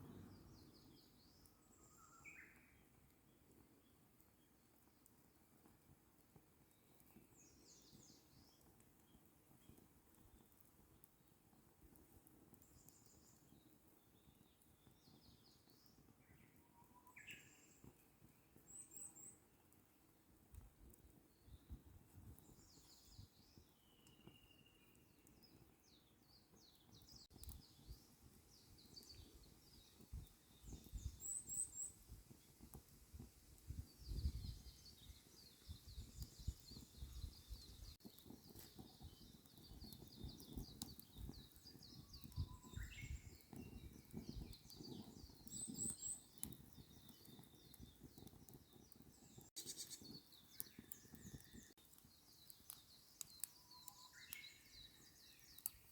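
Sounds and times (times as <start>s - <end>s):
small birds chirping: 0.0s - 5.2s, 6.6s - 11.1s, 12.5s - 19.6s, 21.2s - 55.9s
campfire burning: 0.0s - 55.9s
fire popping: 0.0s - 55.9s.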